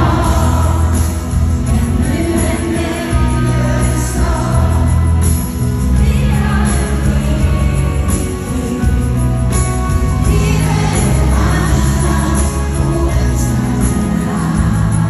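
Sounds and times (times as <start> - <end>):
live band playing: 0.0 - 15.0
woman singing: 0.0 - 15.0.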